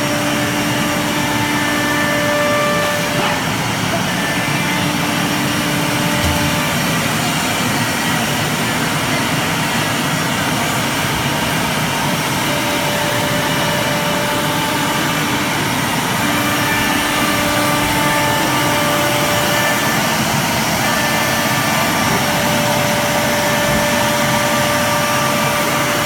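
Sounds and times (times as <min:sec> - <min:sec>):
wood router running: 0:00.0 - 0:26.0.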